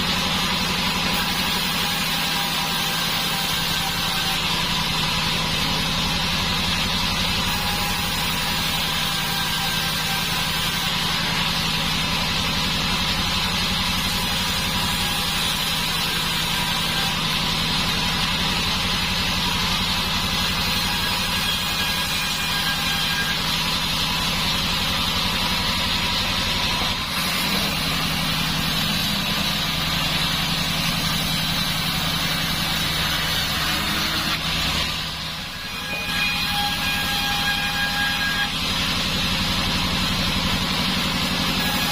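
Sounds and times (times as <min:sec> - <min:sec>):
band saw droning with high whine: 0:00.0 - 0:41.9.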